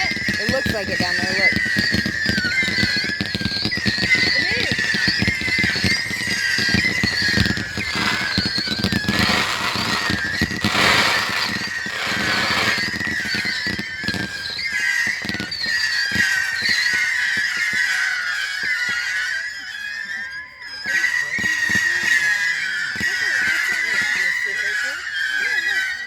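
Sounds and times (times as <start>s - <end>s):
fireworks bangs and crackles: 0.0s - 26.0s
high wavering firework whistle: 0.0s - 26.0s.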